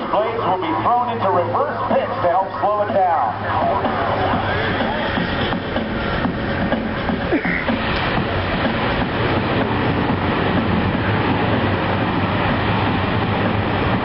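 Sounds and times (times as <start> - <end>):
turboprop engines roaring: 0.0 - 14.0.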